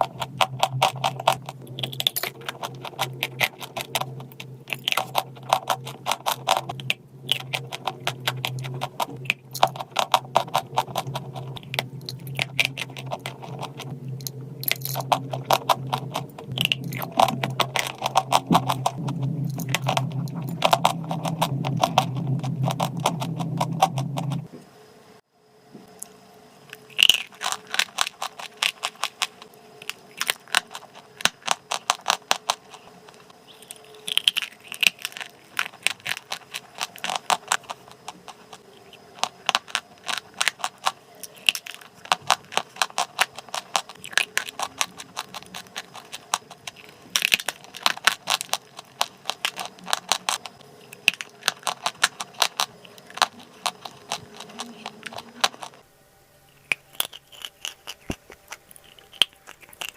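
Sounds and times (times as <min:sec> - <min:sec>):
chewing crunchy chalk: 0:00.0 - 0:24.5, 0:26.7 - 0:55.8, 0:56.5 - 0:59.9.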